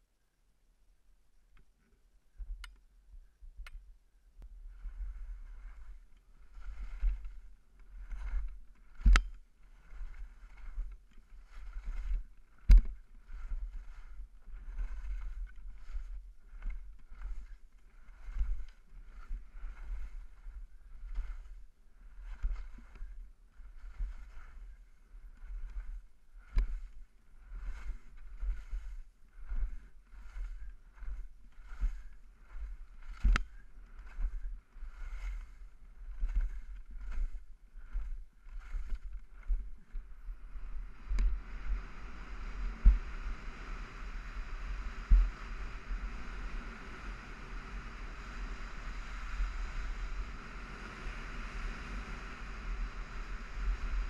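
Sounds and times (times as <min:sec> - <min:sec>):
low rumble: 0:04.4 - 0:53.8
skis scraping on snow: 0:04.5 - 0:54.0.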